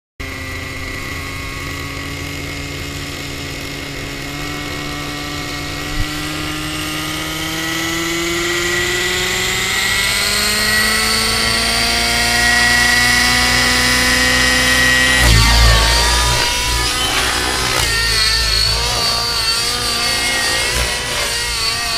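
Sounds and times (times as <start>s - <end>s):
model helicopter engine spooling up: 0.2s - 21.9s.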